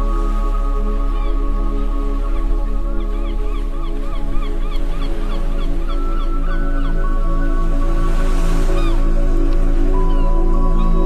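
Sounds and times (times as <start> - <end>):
calm ambient music: 0.0 - 11.0.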